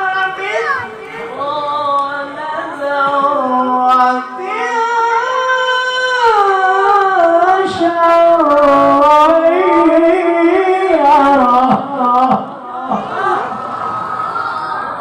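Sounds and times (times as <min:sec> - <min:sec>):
person reciting in melodic style: 0:00.0 - 0:13.4.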